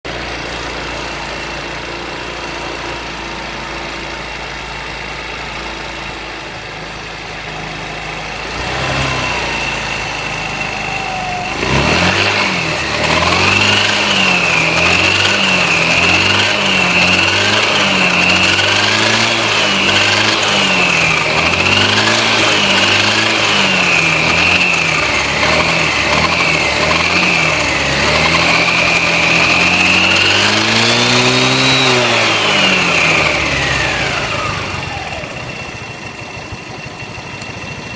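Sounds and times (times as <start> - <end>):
scooter engine revving: 0.0 - 37.9
variator whine: 0.1 - 37.9.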